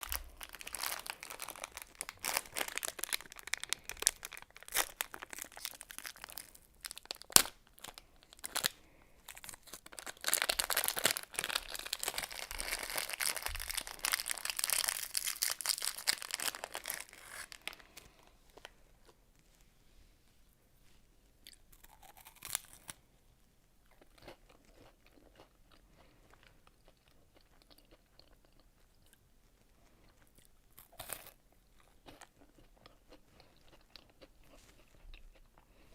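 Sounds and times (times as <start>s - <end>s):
chewing crunchy wafer candy: 0.0s - 19.2s, 21.4s - 23.1s, 23.8s - 35.9s.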